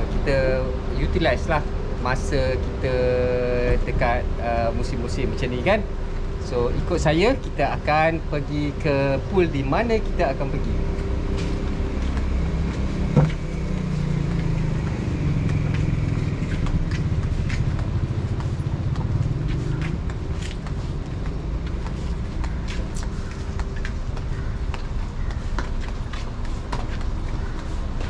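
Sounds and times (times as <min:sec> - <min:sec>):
footsteps on pavement: 0:00.0 - 0:28.0
street traffic rumble: 0:00.0 - 0:28.0.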